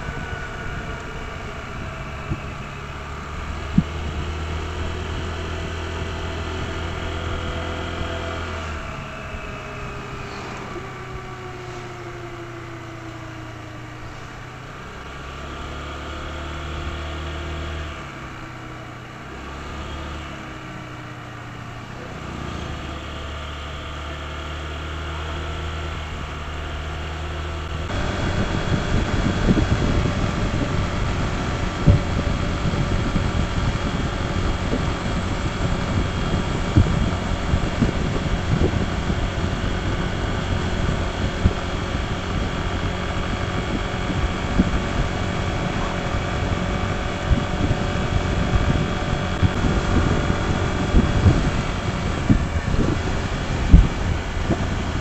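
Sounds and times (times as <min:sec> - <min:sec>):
wind buffeting microphone: 0:00.0 - 0:14.9, 0:25.6 - 0:55.0
scooter engine running: 0:00.0 - 0:55.0.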